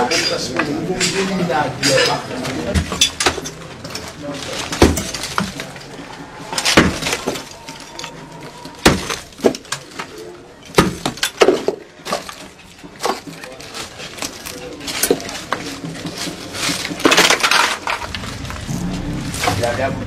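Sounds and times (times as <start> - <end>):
objects crashing and clinking: 0.0 - 20.0.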